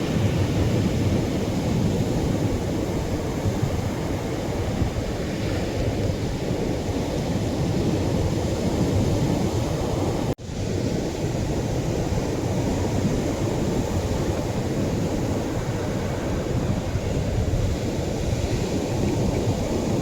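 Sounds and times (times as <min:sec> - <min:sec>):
surf breaking on a beach: 0:00.0 - 0:20.0.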